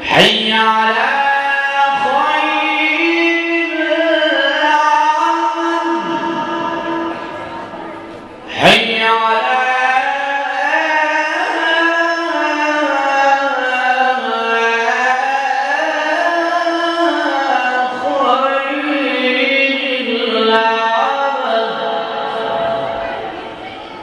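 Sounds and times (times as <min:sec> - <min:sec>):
man chanting over loudspeaker: 0:00.0 - 0:23.8.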